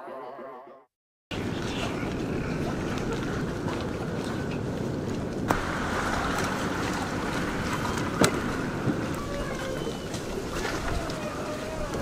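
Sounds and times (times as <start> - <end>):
water lapping at shoreline: 1.3 - 12.0
wind rumbling on microphone: 1.3 - 12.0.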